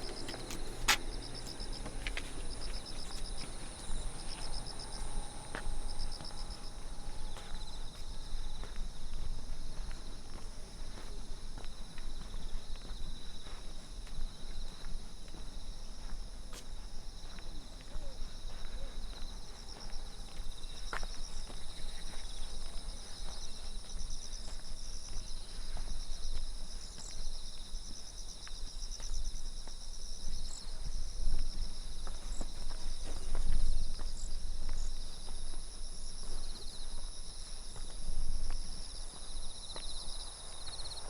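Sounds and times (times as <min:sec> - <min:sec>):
footsteps on a trail: 0:00.0 - 0:41.0
insects chirping: 0:00.0 - 0:41.0.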